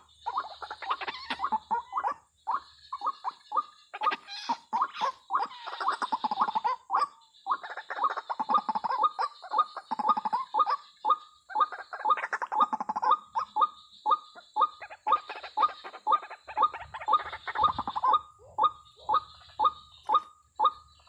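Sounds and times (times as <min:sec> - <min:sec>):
waterhen calling: 0:00.0 - 0:21.0.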